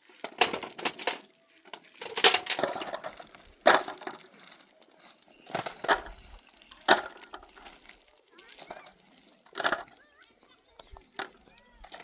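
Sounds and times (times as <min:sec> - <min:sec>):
rustling and crackling: 0:00.0 - 0:12.0.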